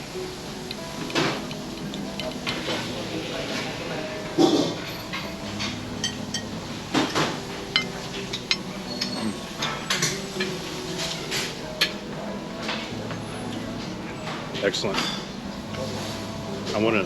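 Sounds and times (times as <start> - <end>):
cutlery clinking on a plate: 0.3 - 13.6, 14.2 - 16.3.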